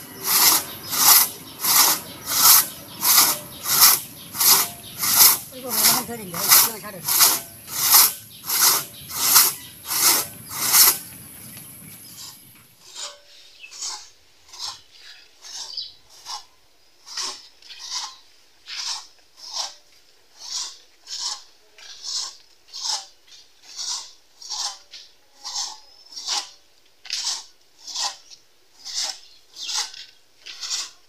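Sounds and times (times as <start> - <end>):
hand saw cutting wood: 0.0 - 31.0.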